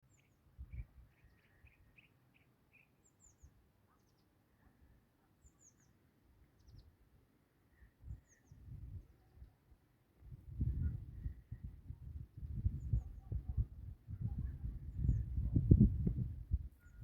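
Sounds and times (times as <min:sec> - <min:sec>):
faint songbirds chirping: 0:00.0 - 0:17.0.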